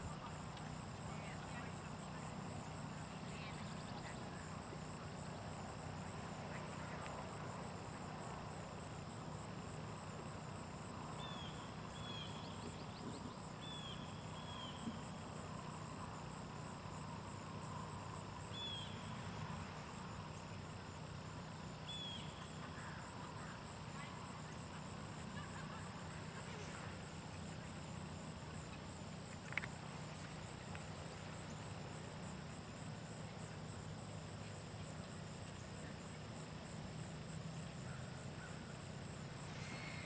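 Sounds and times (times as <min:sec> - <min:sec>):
high-pitched insect chorus: 0:00.0 - 0:40.0.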